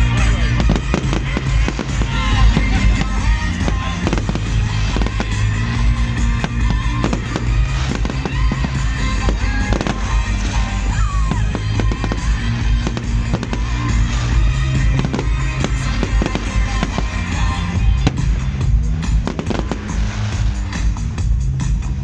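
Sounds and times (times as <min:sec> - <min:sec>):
fireworks bangs and crackles: 0:00.0 - 0:22.0
loud music with bass line: 0:00.0 - 0:22.0.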